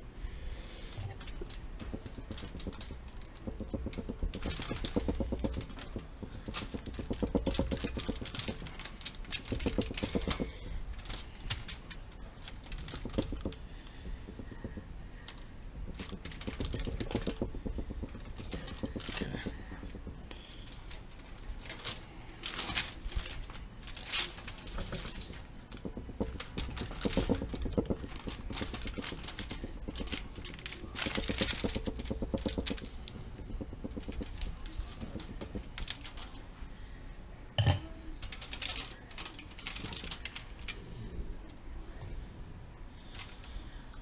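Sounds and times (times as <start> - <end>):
foil crinkling and rustling: 0.4 - 37.0, 37.9 - 41.2.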